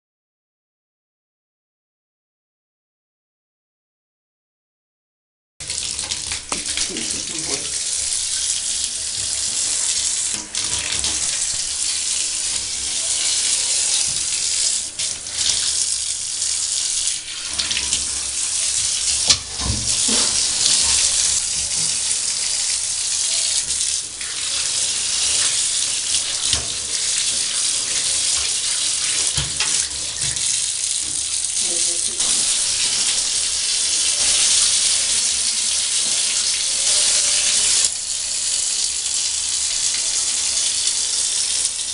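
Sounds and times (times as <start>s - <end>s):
water running into bathtub: 5.6s - 41.9s.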